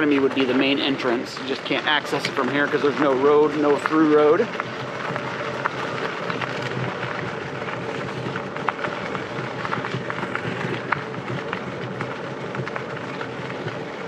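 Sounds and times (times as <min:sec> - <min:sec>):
road and wind noise: 0:00.0 - 0:14.0
vehicle low hum: 0:00.0 - 0:14.0.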